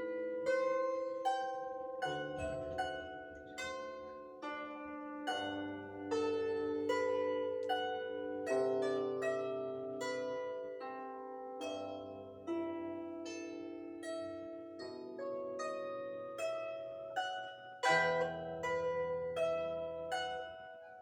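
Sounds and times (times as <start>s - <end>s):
plucked string instrument: 0.0s - 21.0s.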